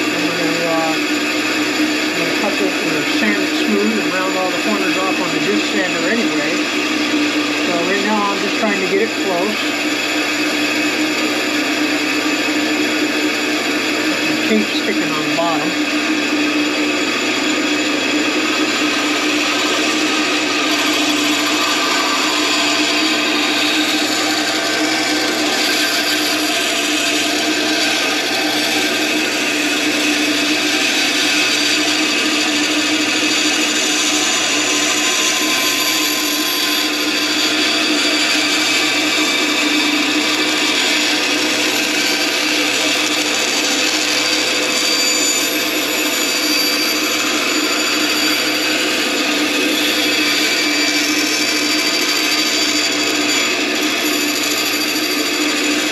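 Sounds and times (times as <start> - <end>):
bandsaw cutting plastic: 0.0 - 11.3, 13.9 - 15.9, 18.4 - 55.9.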